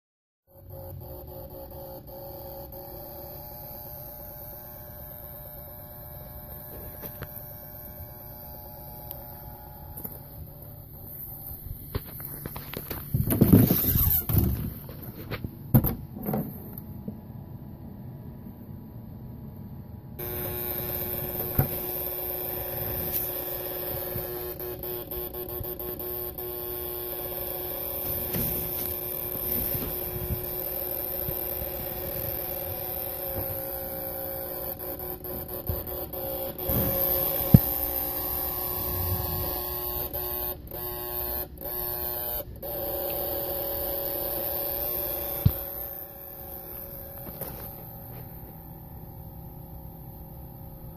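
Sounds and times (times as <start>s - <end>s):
power converter buzzing and whining: 0.5s - 17.8s, 20.0s - 50.9s.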